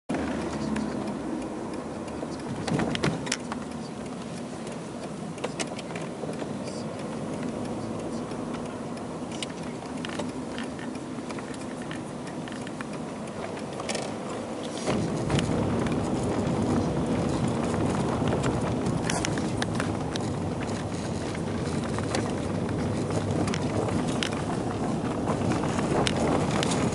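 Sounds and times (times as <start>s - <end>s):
car engine and tyre rumble: 0.1s - 26.9s
sharp clicks and knocks: 0.1s - 26.9s.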